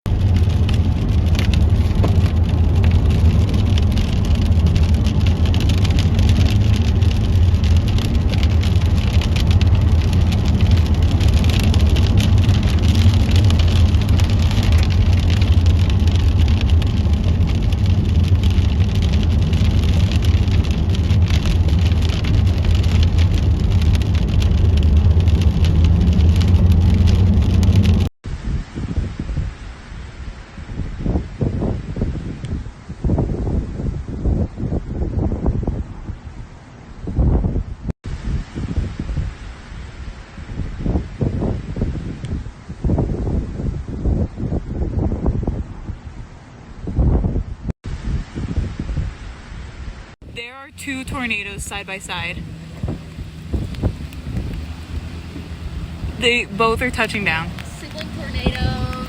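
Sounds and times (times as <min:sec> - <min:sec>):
wind: 0:00.0 - 0:59.0
deep rumble: 0:00.1 - 0:59.0
rain: 0:00.1 - 0:59.0.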